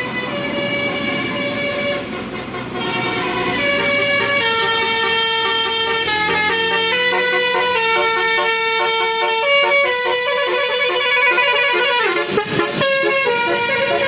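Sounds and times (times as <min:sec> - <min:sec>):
tuned air horn melody: 0:00.0 - 0:14.0.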